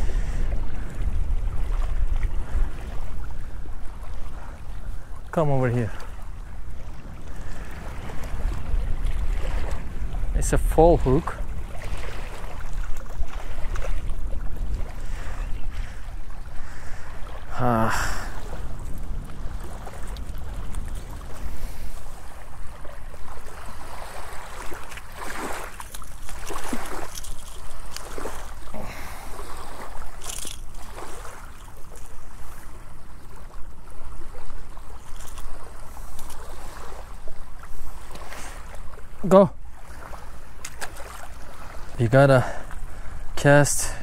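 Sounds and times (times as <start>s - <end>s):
wind rumble on microphone: 0.0s - 42.0s
small waves washing onto sand: 0.0s - 44.0s.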